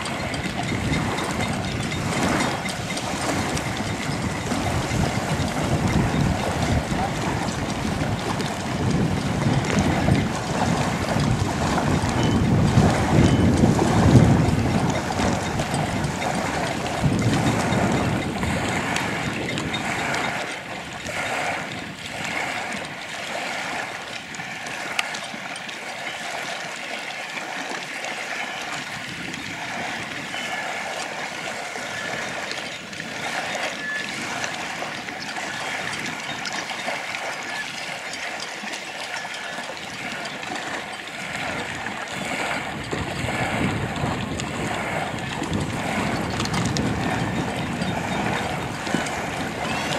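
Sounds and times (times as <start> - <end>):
wind buffeting microphone: 0.0 - 25.2, 28.6 - 49.9
lake water lapping and splashing: 0.0 - 49.9.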